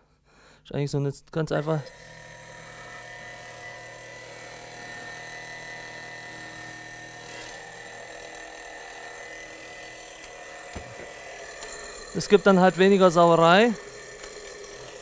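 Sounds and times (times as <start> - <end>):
small electric pump whirring: 1.6 - 15.0.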